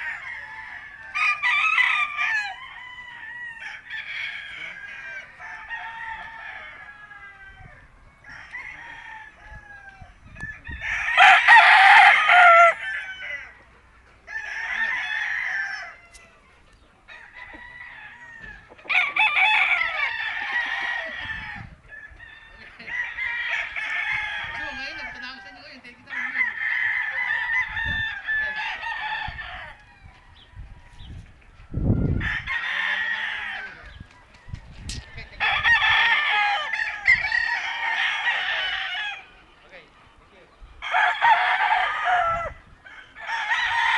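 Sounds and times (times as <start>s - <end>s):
roosters crowing: 0.0s - 43.9s.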